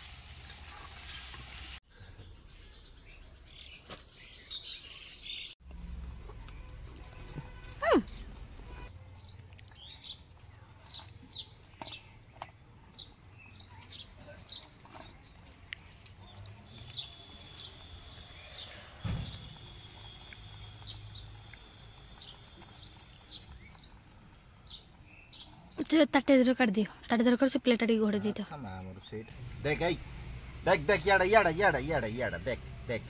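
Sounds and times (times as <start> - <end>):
small birds chirping: 6.3 - 33.0.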